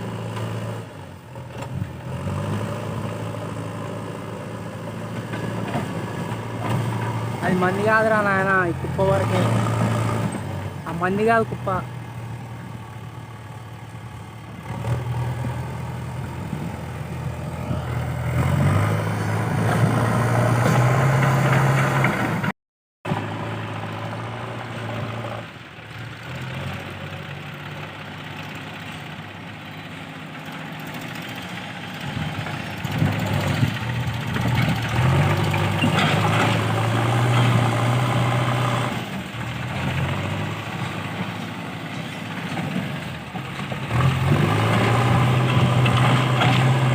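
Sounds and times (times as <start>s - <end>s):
diesel engine revving: 0.0s - 22.5s, 23.1s - 46.9s.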